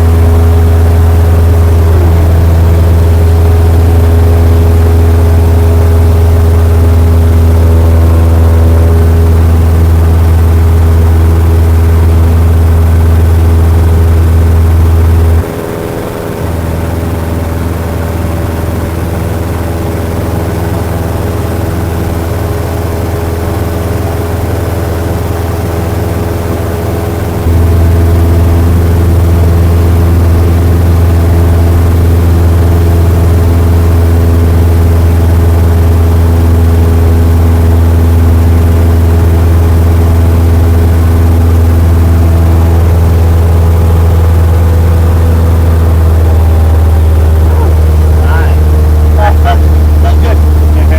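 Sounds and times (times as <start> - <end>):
airplane propeller engine humming: 0.0 - 50.9.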